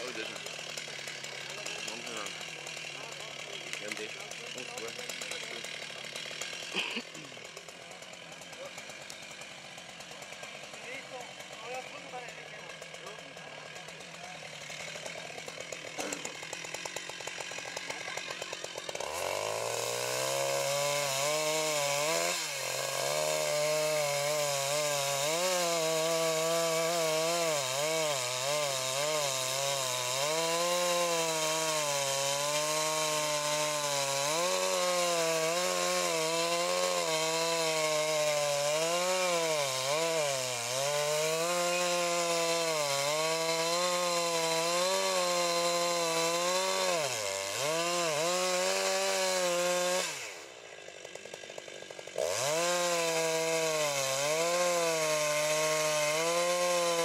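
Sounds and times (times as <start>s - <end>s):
chainsaw cutting into tree: 0.0s - 57.0s.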